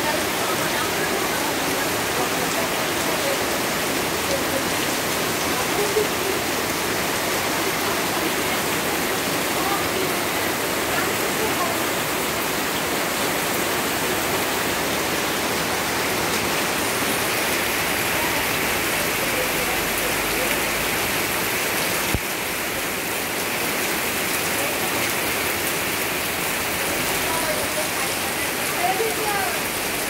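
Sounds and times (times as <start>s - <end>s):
torrential rain on pavement: 0.0s - 30.0s.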